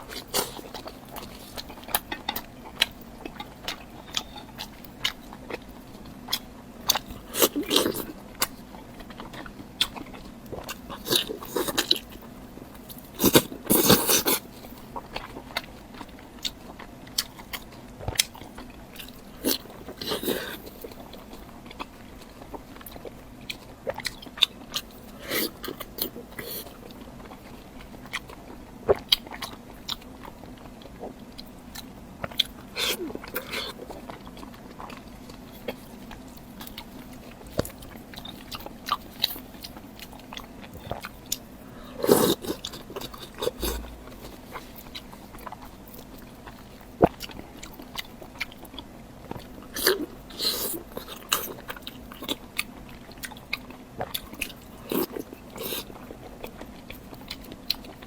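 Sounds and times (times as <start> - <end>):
chewing with wet mouth smacks: 0.0 - 58.0.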